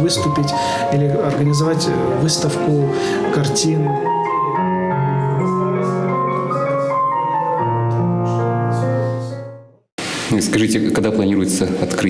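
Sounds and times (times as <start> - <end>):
slow piano melody: 0.0 - 9.9.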